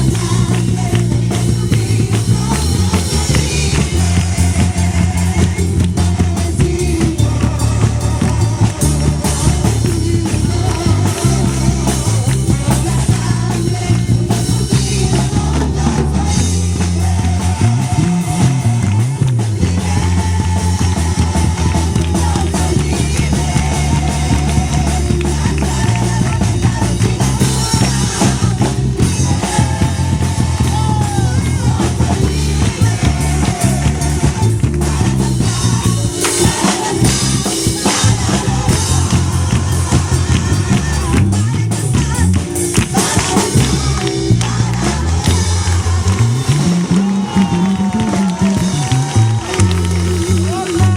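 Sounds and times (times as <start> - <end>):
rock band music: 0.0 - 50.9.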